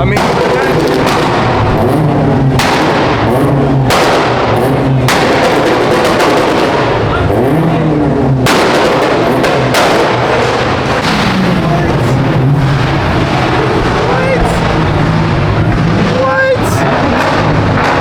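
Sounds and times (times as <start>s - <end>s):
engines revving: 0.0s - 18.0s
sharp bangs: 0.0s - 18.0s.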